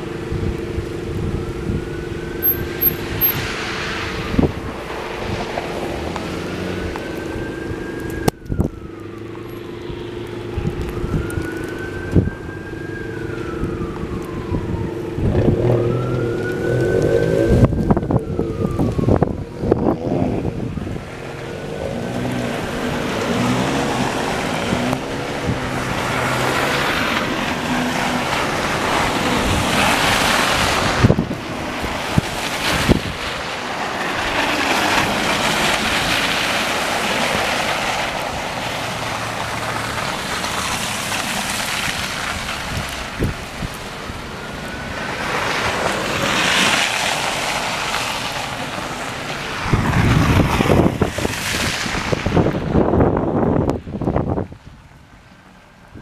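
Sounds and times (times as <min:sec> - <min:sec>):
cars passing through slush: 0:00.0 - 0:56.0
engine hum: 0:00.0 - 0:56.0
wind buffeting microphone: 0:00.2 - 0:09.1, 0:09.9 - 0:40.8, 0:41.6 - 0:46.8, 0:49.1 - 0:55.1.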